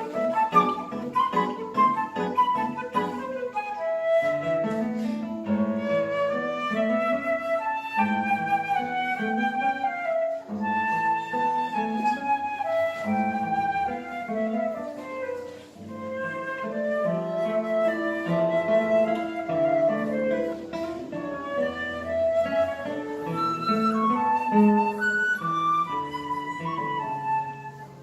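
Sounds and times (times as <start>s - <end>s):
flute melody: 0.0s - 28.0s
plucked guitar: 0.0s - 28.0s.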